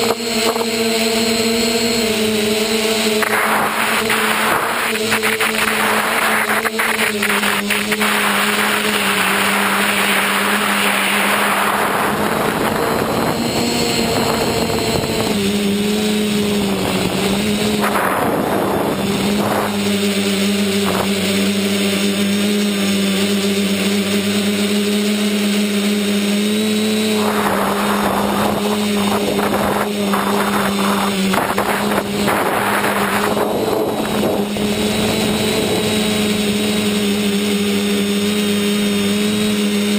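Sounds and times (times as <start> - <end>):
model aircraft motor and propeller: 0.0 - 39.9
wind noise on microphone: 1.9 - 24.9, 25.6 - 37.7.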